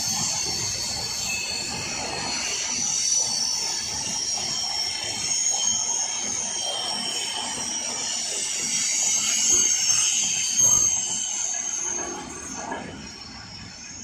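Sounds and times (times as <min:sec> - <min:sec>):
high-pitched wheel squeal: 0:00.0 - 0:14.0
train wheels rumbling on rails: 0:00.0 - 0:14.0.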